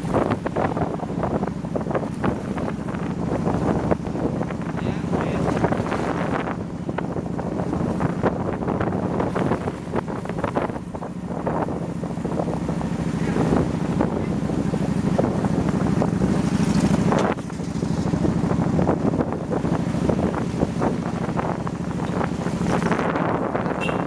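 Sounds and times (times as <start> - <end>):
motorbike engine running: 0.0 - 24.0
wind buffeting microphone: 0.0 - 24.0.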